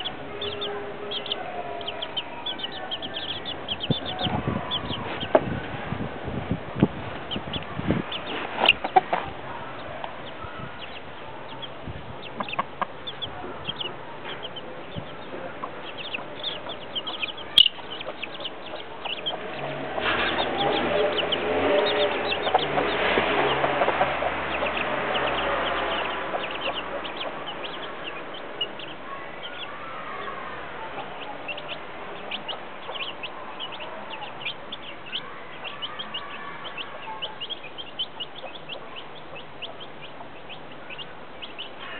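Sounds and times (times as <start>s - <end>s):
hen clucking: 0.0s - 5.7s, 7.1s - 41.9s
chicks peeping: 0.0s - 41.9s.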